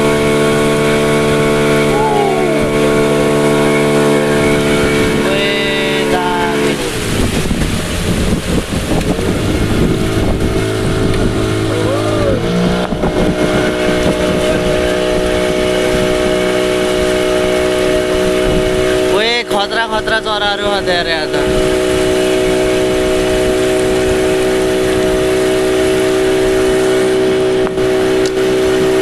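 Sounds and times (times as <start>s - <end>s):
wind noise on microphone: 0.0s - 19.2s, 20.0s - 29.0s
motorboat engine running: 0.0s - 29.0s.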